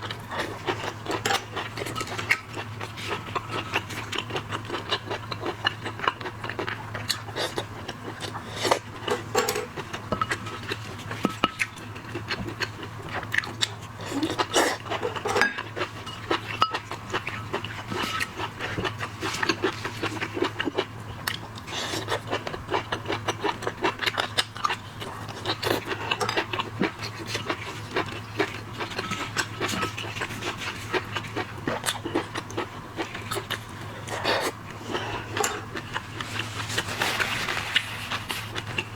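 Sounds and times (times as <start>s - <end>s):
wet chewing and slurping: 0.0s - 38.9s.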